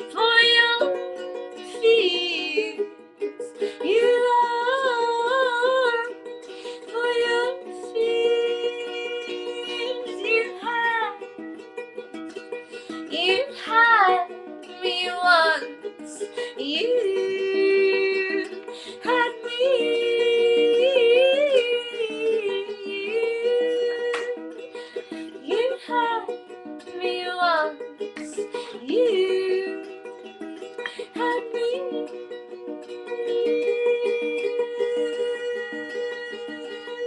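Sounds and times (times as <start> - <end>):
woman singing wordlessly: 0.0 - 11.4, 12.9 - 30.2, 30.8 - 37.0
strummed ukulele: 0.0 - 37.0.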